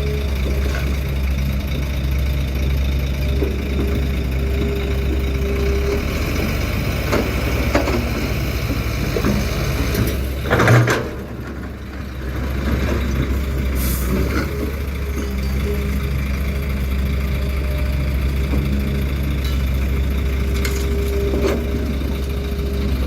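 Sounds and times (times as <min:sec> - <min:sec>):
heavy diesel engines running: 0:00.0 - 0:23.0.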